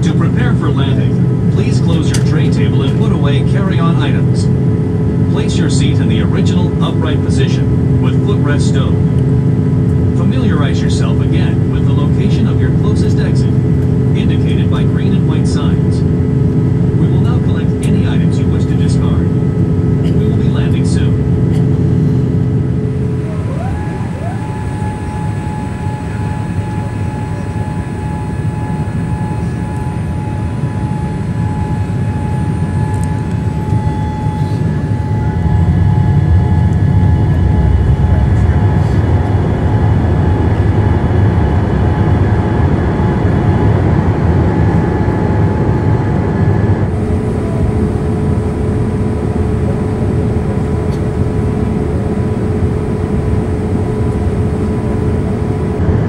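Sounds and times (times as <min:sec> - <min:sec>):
aircraft cabin engine rumble: 0:00.0 - 0:56.0
steady mechanical whine: 0:00.0 - 0:56.0.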